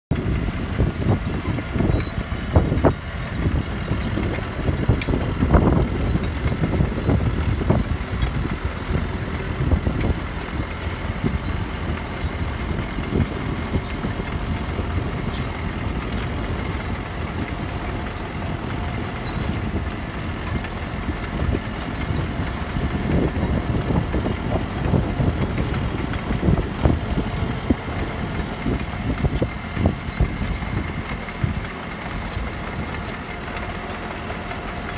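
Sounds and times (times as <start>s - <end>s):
bulldozer diesel engine: 0.0s - 34.9s.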